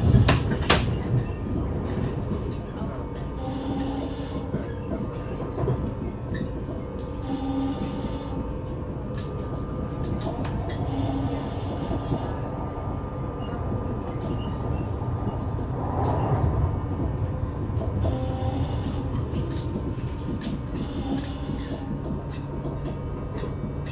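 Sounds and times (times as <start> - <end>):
train wheels rumbling on track: 0.0 - 23.9.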